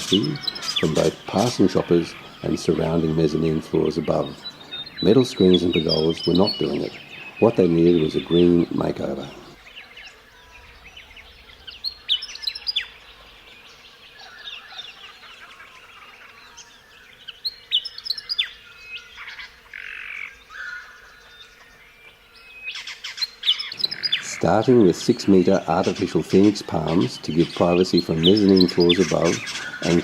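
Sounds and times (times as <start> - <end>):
birds chirping and tweeting: 0.0 - 30.0.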